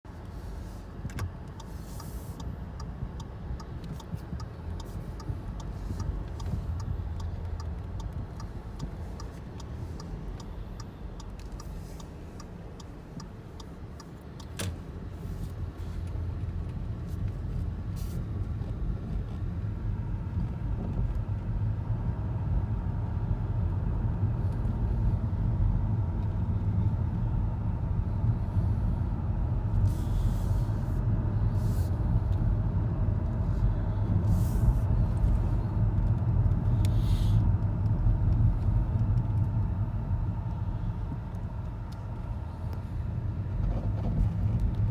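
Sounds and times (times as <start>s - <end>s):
car low rumble: 0.0s - 44.9s.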